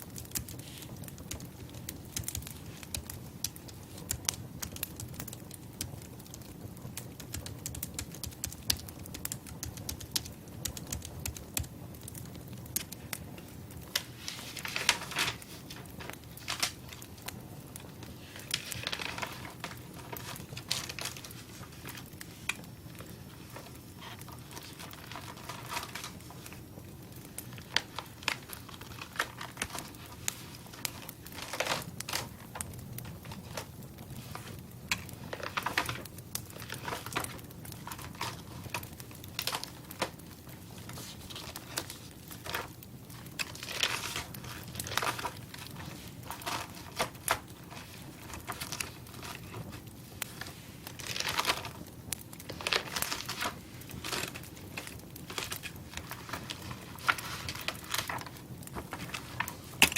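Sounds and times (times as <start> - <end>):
crackling and crinkling: 0.0 - 59.9.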